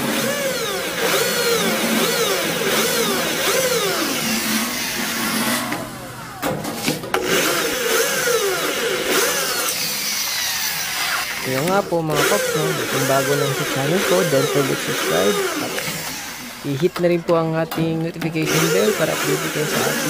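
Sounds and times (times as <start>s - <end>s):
electric drill boring metal: 0.0s - 6.5s, 7.2s - 17.5s, 18.2s - 20.0s.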